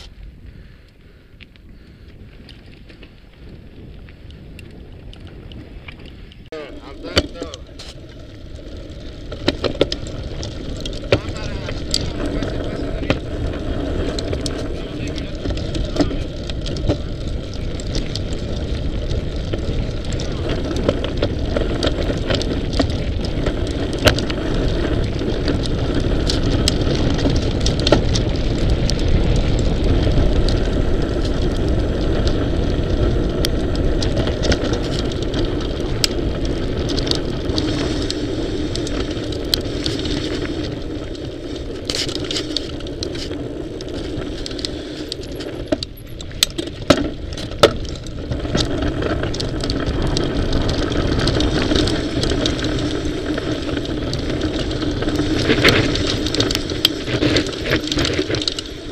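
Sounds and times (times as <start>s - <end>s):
bike clicks and rattles: 0.0s - 58.9s
bike tyres rumbling on dirt: 0.0s - 58.9s
wind on microphone: 0.0s - 58.9s.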